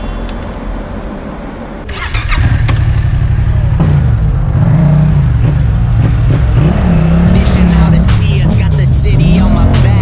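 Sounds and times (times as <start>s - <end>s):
motorcycle engine revving: 1.9s - 10.0s.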